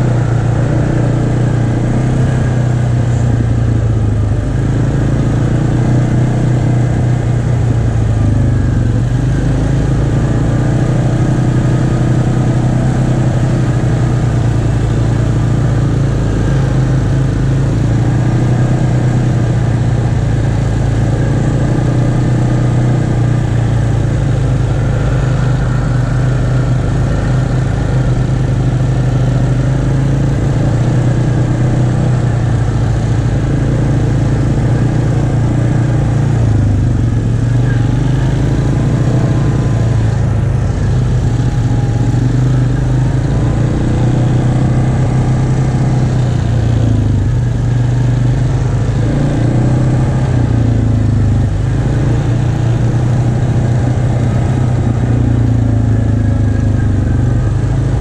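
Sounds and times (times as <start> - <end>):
atv engine droning: 0.0 - 58.0.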